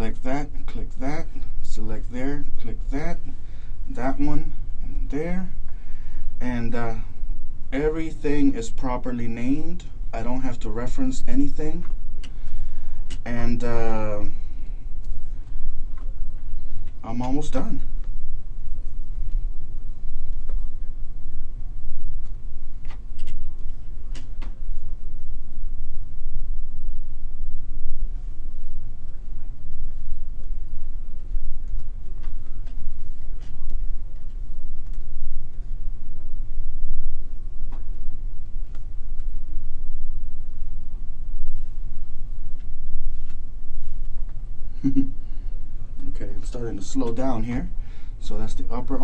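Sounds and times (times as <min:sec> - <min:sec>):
low background rumble: 0:00.0 - 0:49.0.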